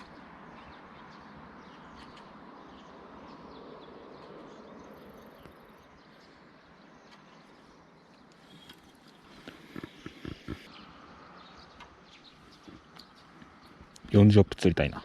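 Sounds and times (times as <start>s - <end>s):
bird chirps: 0.0s - 14.2s
outdoor background noise: 0.0s - 15.0s.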